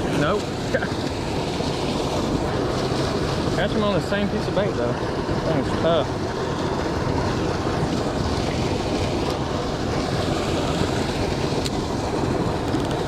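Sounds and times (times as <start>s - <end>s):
water rushing over spillway: 0.0s - 13.0s.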